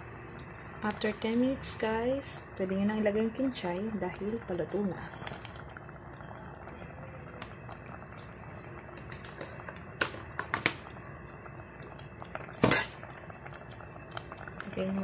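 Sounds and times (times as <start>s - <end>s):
food bubbling in a pot: 0.0s - 15.0s.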